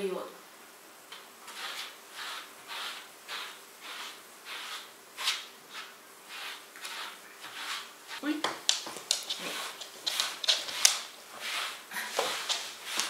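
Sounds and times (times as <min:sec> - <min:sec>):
brush stroking dog fur: 0:01.5 - 0:13.0.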